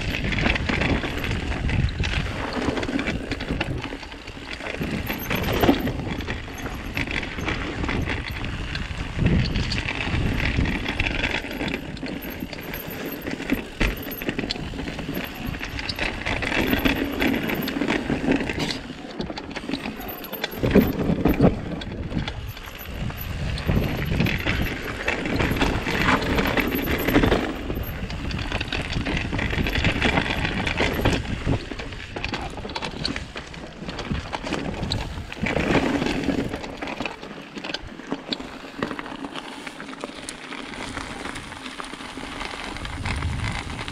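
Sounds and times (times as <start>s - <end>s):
bike knocking and rattling: 0.0s - 43.9s
bike tyres rumbling over dirt: 0.0s - 43.9s.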